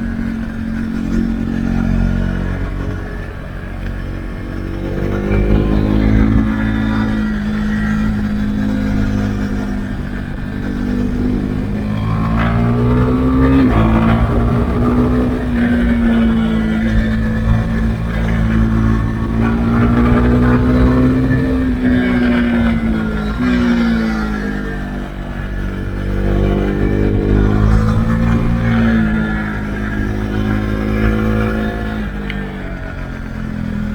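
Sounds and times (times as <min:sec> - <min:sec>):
motorcycle engine pulling under load: 0:00.0 - 0:33.9.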